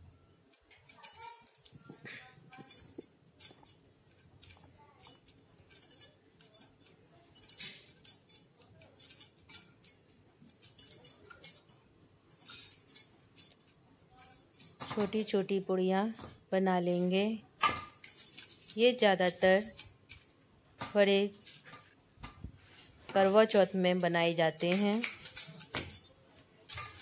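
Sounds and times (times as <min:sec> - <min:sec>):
glass bangles clinking: 0:00.1 - 0:20.5, 0:23.8 - 0:27.0.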